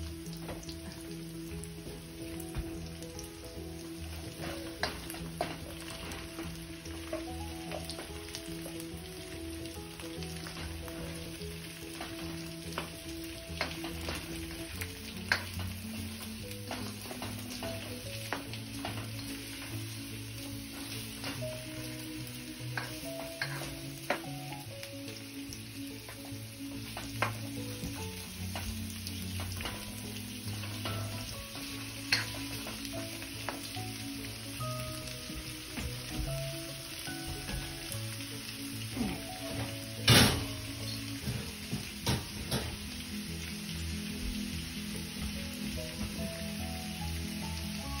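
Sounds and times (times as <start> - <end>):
food sizzling in a wok: 0.0 - 48.0
soft background melody: 0.0 - 48.0
soft background music: 0.0 - 48.0.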